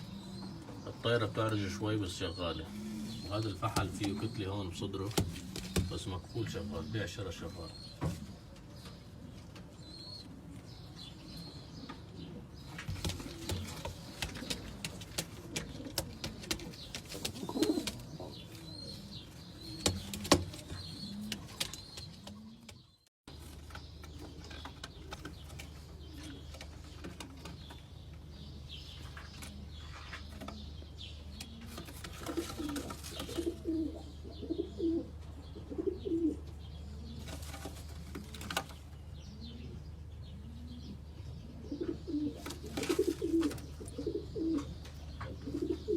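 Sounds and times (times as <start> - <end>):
pigeons cooing: 0.0 - 22.9, 24.1 - 45.9.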